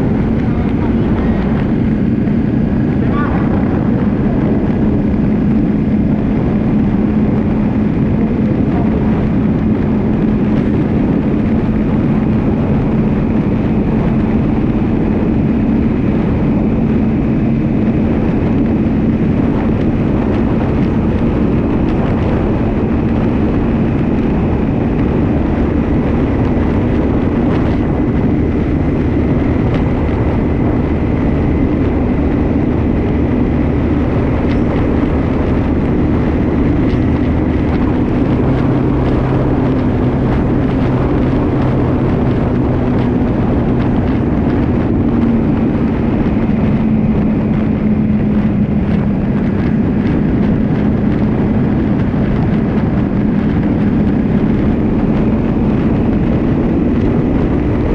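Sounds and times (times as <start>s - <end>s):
rushing noise: 0.0s - 57.9s
vehicle engine running steadily: 0.0s - 57.9s.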